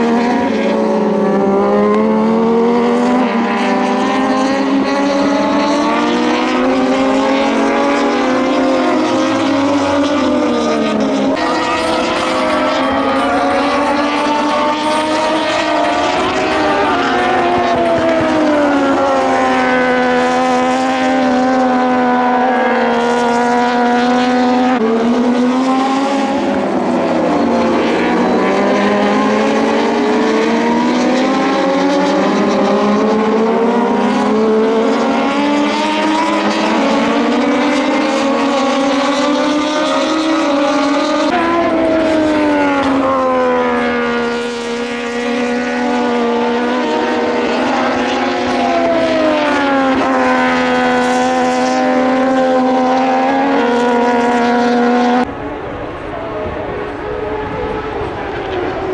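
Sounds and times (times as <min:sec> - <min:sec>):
race motorcycles revving: 0:00.0 - 0:58.9.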